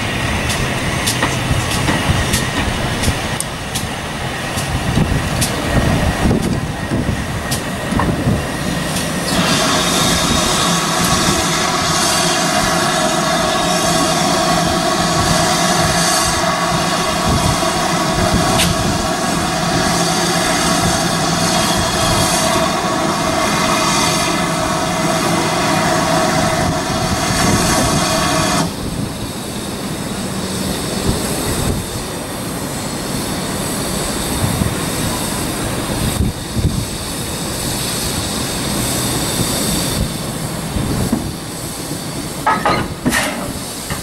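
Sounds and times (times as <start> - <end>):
locomotive rumbling on track: 0.0 - 44.0
steam locomotive hissing: 0.0 - 44.0.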